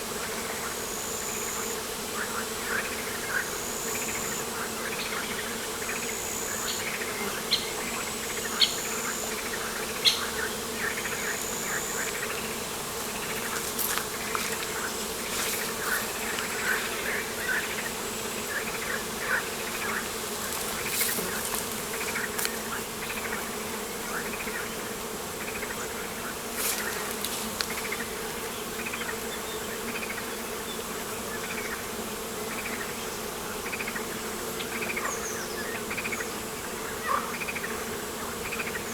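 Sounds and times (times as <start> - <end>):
insect buzzing: 0.0 - 38.9.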